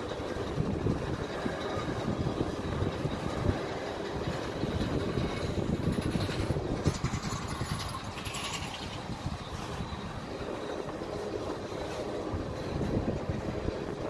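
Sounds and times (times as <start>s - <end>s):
running gear clicking and knocking: 0.0s - 14.0s
train wheels rumbling on rails: 0.0s - 14.0s.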